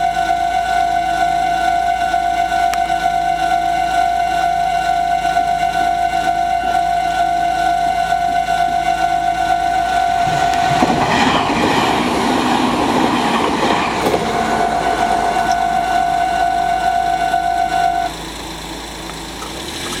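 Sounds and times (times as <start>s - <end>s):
level crossing alarm ringing: 0.0s - 18.4s
train rumbling over crossing: 0.0s - 20.0s.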